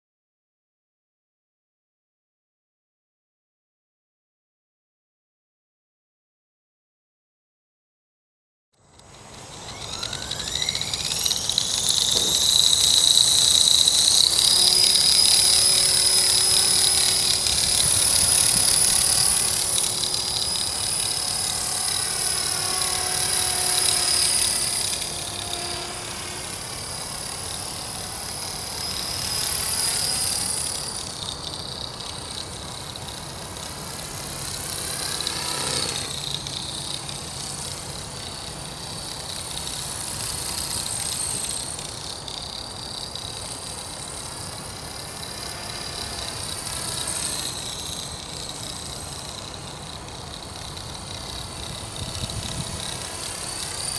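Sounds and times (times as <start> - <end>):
rc helicopter whine: 8.8 - 53.9.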